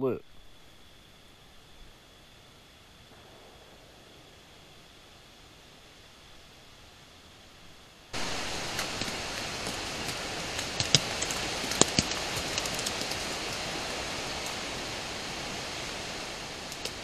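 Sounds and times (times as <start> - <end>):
steady recording hiss: 0.0 - 17.0.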